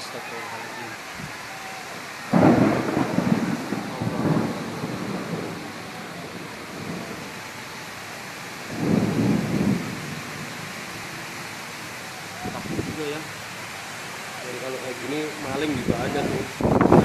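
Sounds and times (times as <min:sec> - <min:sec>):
rain hissing: 0:00.0 - 0:17.0
loud low wind gusts: 0:00.9 - 0:17.0.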